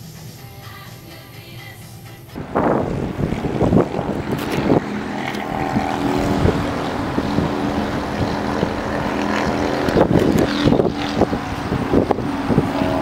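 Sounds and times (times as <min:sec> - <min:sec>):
mechanical drone: 0:02.3 - 0:13.0.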